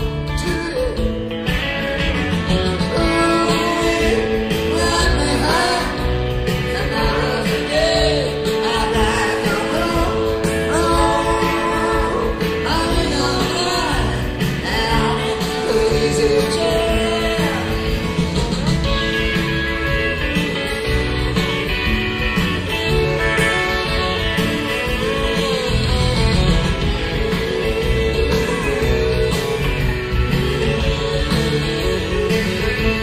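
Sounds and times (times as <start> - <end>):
song with singing and guitar band: 0.0 - 33.0.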